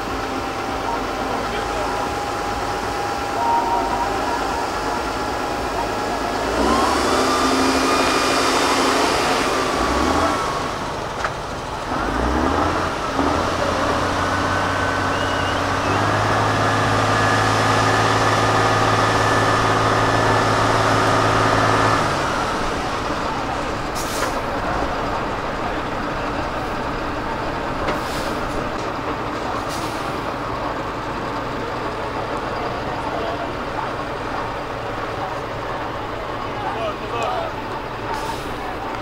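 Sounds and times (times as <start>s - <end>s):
diesel engine revving: 0.0s - 39.0s.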